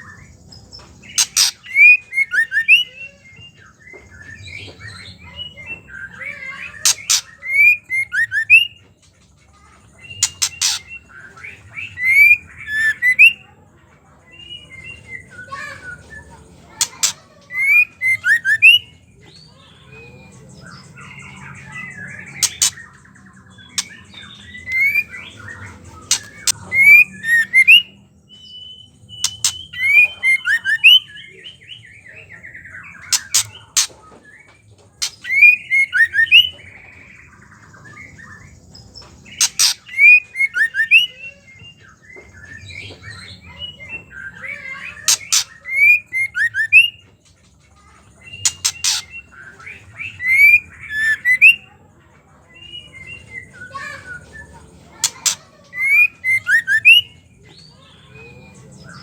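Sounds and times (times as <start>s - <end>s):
bird chattering: 0.0s - 3.3s, 4.0s - 59.0s.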